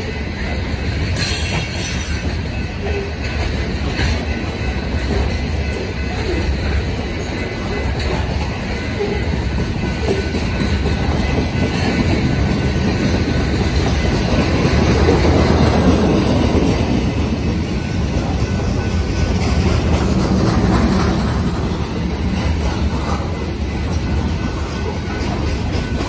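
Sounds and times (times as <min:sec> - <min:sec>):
freight train wheels on rails: 0:00.0 - 0:26.0.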